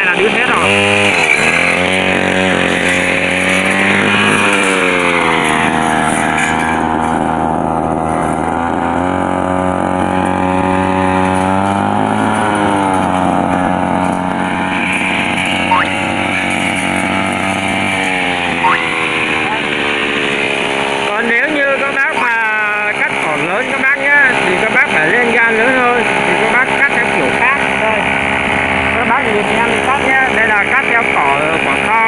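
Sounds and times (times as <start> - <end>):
blade cutting weeds: 0.0 - 32.0
brush cutter engine running: 0.0 - 32.0.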